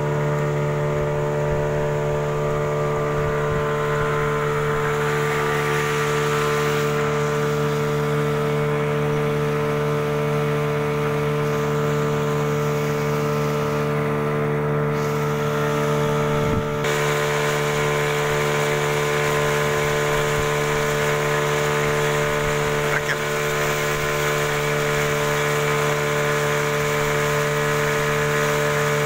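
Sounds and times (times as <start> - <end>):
outboard motor droning: 0.0 - 29.0.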